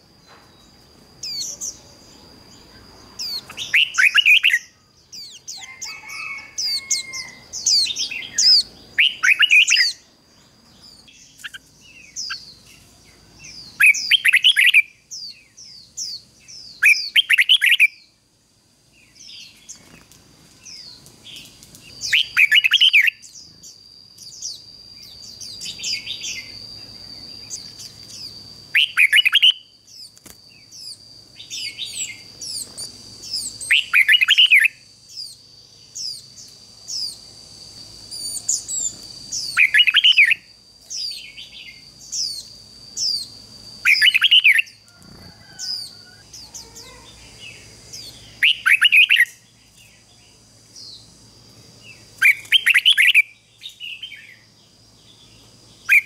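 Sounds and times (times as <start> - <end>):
bird warbling song: 0.2 - 18.2, 19.0 - 37.3, 38.0 - 51.2, 51.8 - 56.0.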